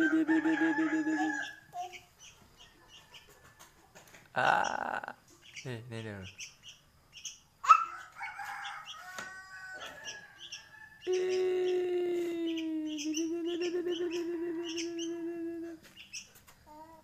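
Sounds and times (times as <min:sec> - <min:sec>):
bird chick chirping: 0:01.0 - 0:16.8.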